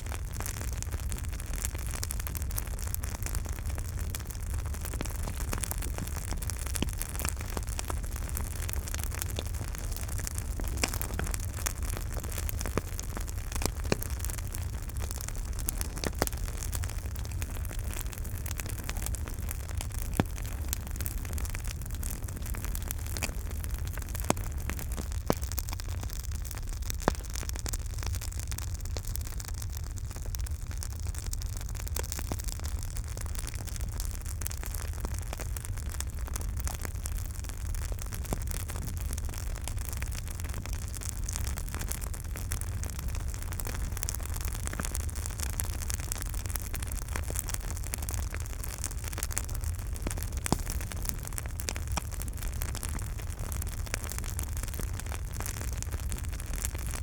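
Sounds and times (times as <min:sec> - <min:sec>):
burning wood crackling and popping: 0:00.0 - 0:57.0
campfire burning: 0:00.0 - 0:57.0.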